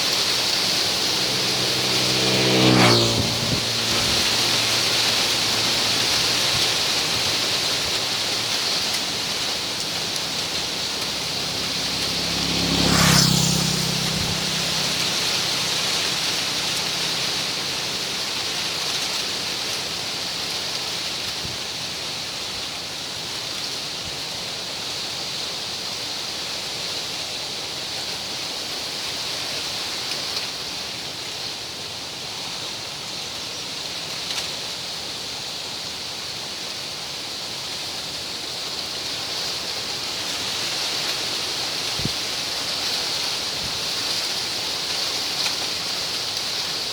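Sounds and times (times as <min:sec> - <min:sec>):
wind rustling palm fronds: 0:00.0 - 0:46.9.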